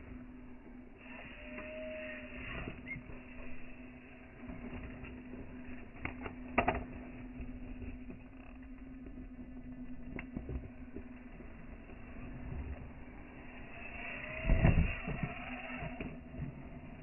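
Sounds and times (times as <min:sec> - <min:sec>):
burst with rising whine: 0:00.0 - 0:17.0
electric motor humming: 0:00.0 - 0:17.0.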